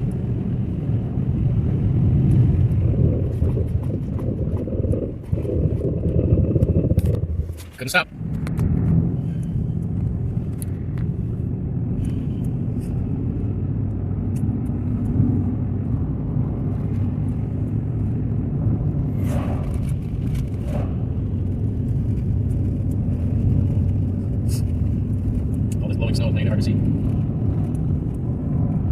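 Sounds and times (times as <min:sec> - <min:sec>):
car engine and road rumble: 0:00.0 - 0:28.9.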